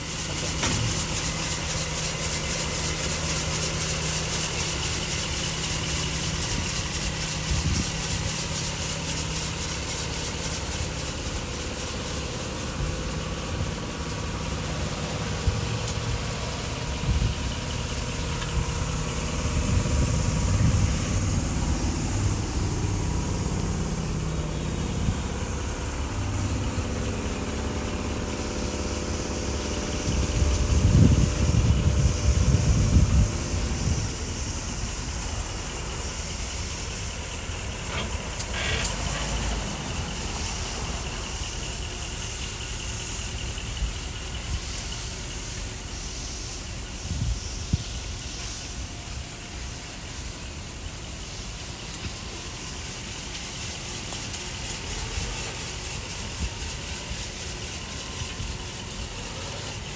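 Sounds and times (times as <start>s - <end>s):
car engine running steadily: 0.0s - 59.9s.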